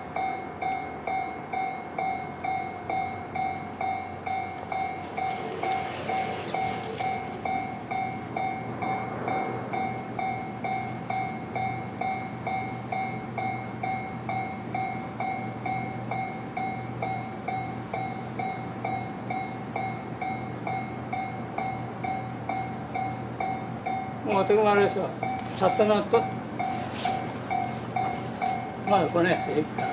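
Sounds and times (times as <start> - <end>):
level crossing two-tone alarm: 0.2 - 24.2, 27.5 - 29.9.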